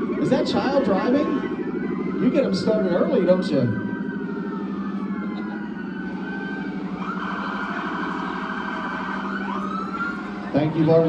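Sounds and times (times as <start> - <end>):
police sirens wailing: 0.0 - 11.0
steady low drone: 0.0 - 11.0.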